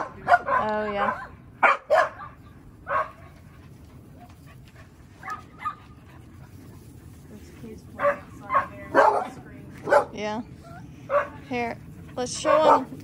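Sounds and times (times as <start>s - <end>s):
dogs barking and yipping: 0.0s - 13.0s.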